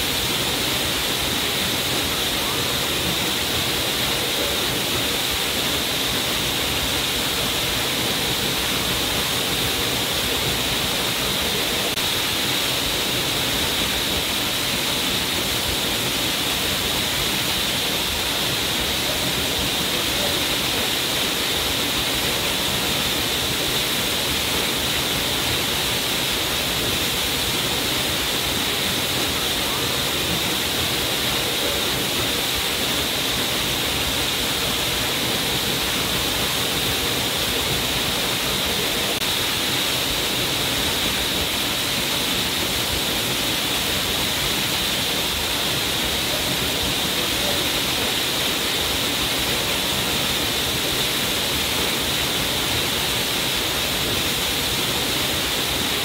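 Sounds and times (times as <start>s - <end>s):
waterfall pouring: 0.0s - 56.0s.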